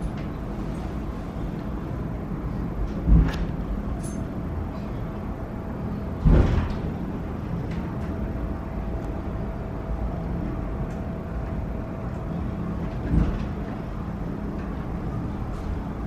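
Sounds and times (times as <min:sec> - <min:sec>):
funicular car low rumble: 0:00.0 - 0:16.0.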